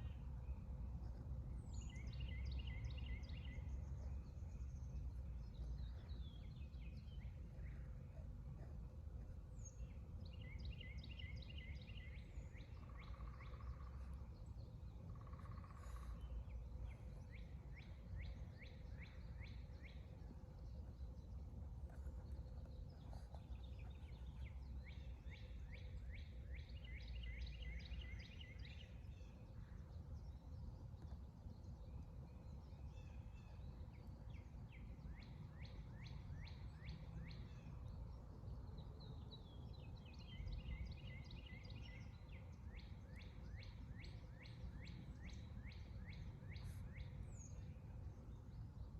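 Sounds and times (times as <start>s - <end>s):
low background rumble: 0.0s - 42.8s.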